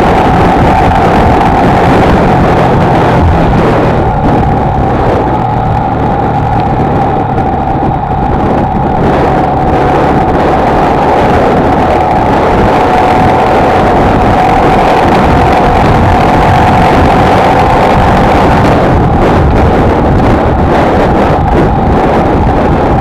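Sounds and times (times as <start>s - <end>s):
motorcycle engine cruising: 0.0s - 23.0s
road noise: 0.0s - 23.0s
wind noise: 0.0s - 23.0s.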